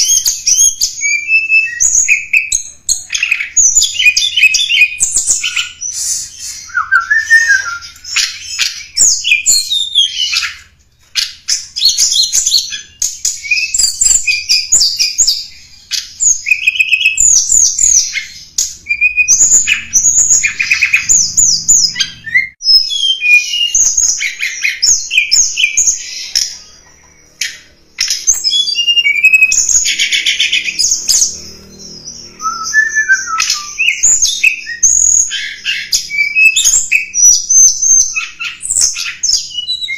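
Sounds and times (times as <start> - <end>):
bird twittering and trilling: 0.0 - 39.9.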